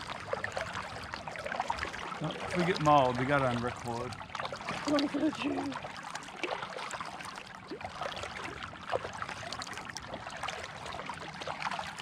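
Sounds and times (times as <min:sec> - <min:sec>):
low water wash: 0:00.0 - 0:12.0
water trickling and dripping: 0:00.0 - 0:12.0.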